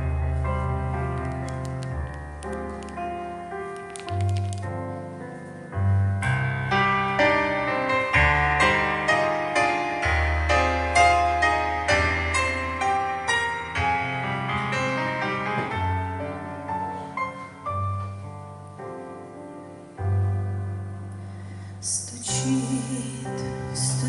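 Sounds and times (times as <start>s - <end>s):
slow gentle piano melody: 0.0s - 24.0s.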